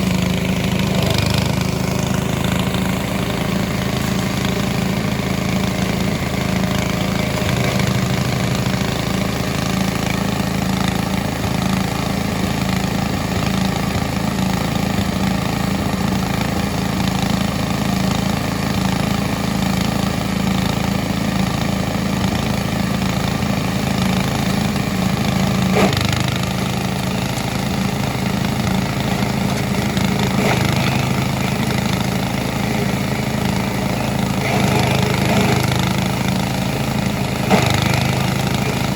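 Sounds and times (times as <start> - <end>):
grass chopper engine running: 0.0 - 38.9.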